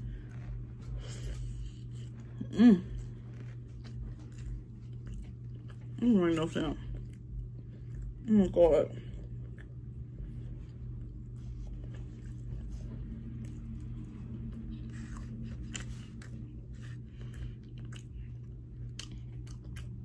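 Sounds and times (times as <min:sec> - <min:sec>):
person chewing and smacking: 0:00.0 - 0:06.0, 0:06.9 - 0:08.3, 0:09.0 - 0:20.0
low hum: 0:00.0 - 0:20.0.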